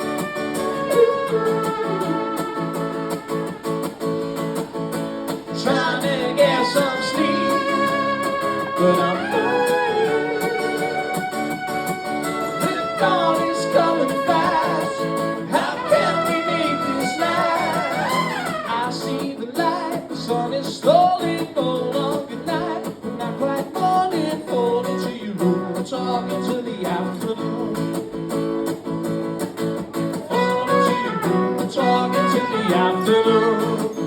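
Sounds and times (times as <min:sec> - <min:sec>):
melodic lead guitar line: 0:00.0 - 0:21.6, 0:27.4 - 0:34.0
strummed acoustic guitar: 0:00.0 - 0:34.0.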